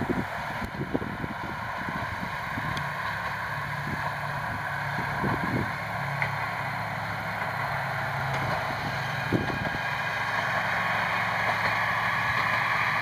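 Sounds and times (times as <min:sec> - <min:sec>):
diesel railcar engine humming: 0:00.0 - 0:13.0.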